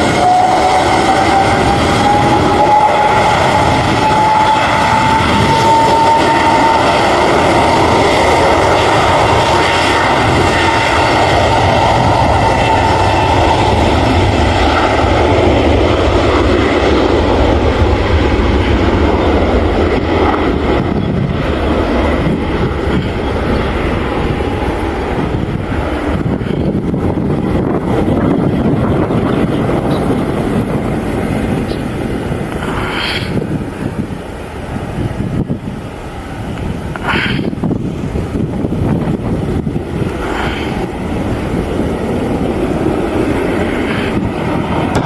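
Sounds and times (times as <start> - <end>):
airliner engines running: 0.0 - 45.0
high whine: 0.0 - 45.0.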